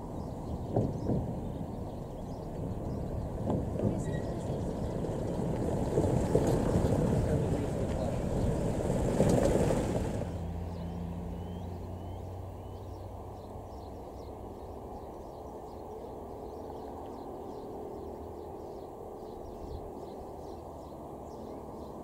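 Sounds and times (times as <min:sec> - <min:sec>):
outdoor background noise: 0:00.0 - 0:22.0
van passing: 0:00.0 - 0:22.0.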